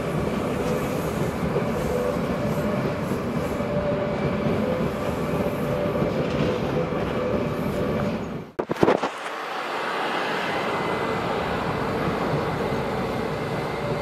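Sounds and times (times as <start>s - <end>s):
train rolling slowly: 0.0s - 14.0s.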